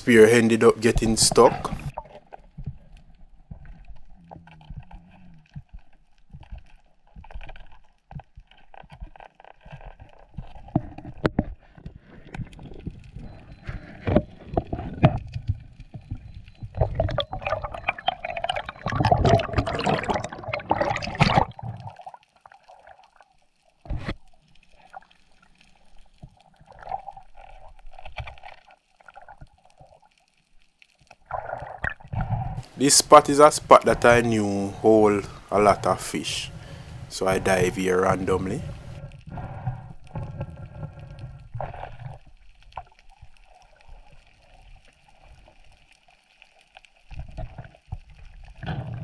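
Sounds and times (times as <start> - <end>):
bubbling and splashing: 0.7 - 49.0
water sloshing and gurgling: 0.8 - 32.8, 38.6 - 49.0.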